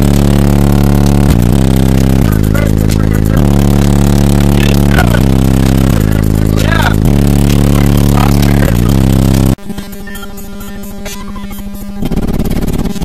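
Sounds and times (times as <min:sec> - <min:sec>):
loud bass-heavy music: 0:00.0 - 0:13.0.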